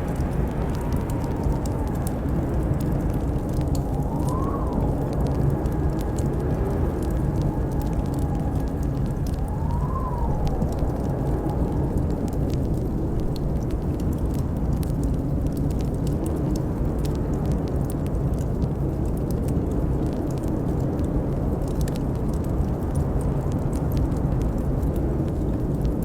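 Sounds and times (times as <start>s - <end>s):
blizzard wind rumbling: 0.0s - 26.0s
wood fire crackling: 0.0s - 26.0s.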